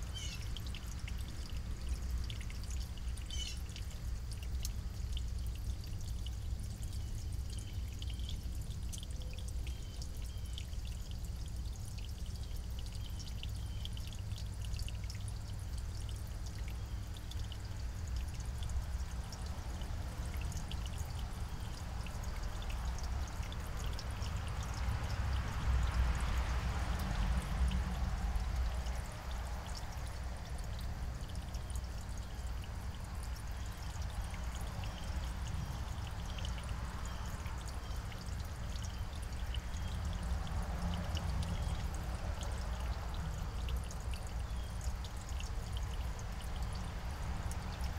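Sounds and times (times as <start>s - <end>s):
outdoor rumble with hiss: 0.0s - 47.9s.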